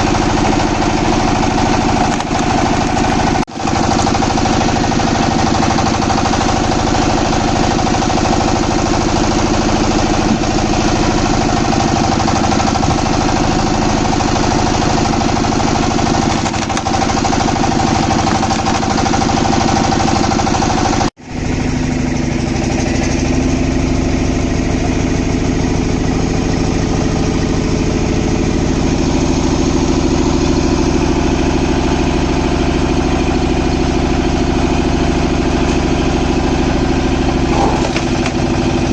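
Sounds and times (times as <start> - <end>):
wood-cutting machine droning: 0.0 - 38.9.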